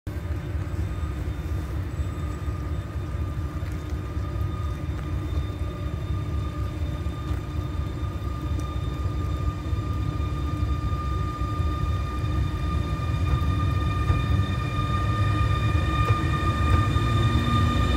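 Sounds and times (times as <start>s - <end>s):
electric locomotive rumbling: 0.1s - 17.9s
locomotive high whine: 0.1s - 17.9s.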